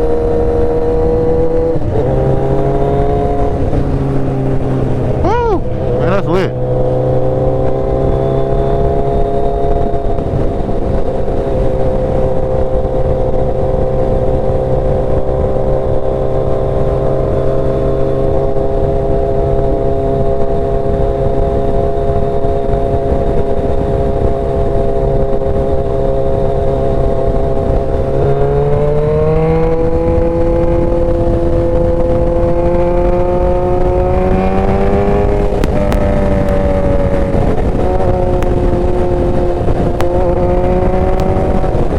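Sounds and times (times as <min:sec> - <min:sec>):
motorcycle engine running: 0:00.0 - 0:41.9
wind rumble: 0:00.0 - 0:41.9.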